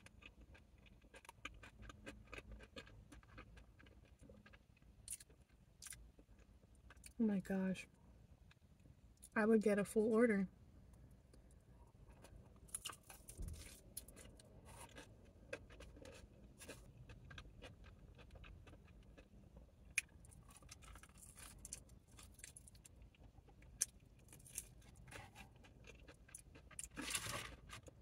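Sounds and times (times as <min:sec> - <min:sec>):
chewing with wet mouth smacks: 0:00.0 - 0:07.2, 0:12.1 - 0:28.0.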